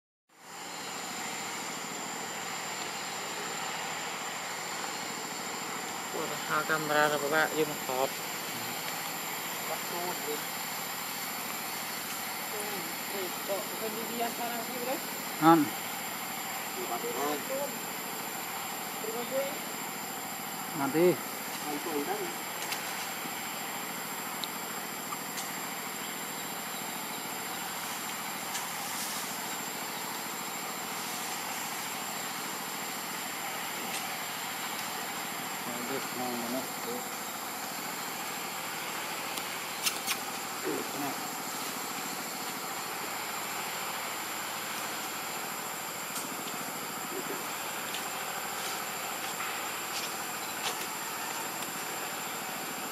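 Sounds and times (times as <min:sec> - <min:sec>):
even hiss: 0:00.4 - 0:52.9.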